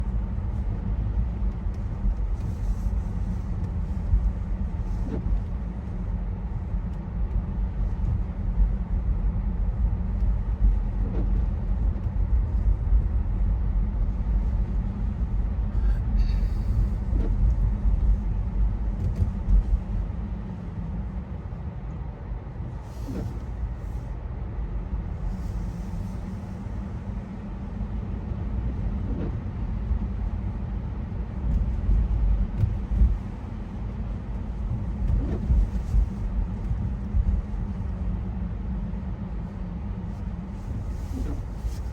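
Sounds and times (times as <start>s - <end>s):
low vehicle rumble: 0.0s - 41.9s.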